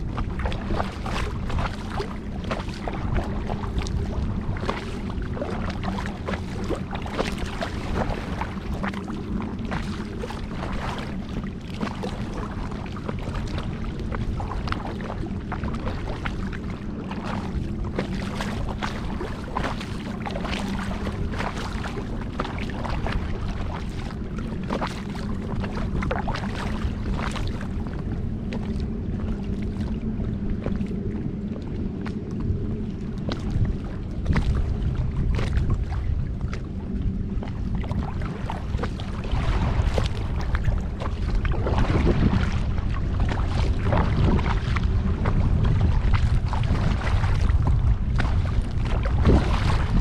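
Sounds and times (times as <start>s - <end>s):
paddle splashes in water: 0.0s - 32.3s, 33.0s - 50.0s
low rumble: 0.0s - 50.0s.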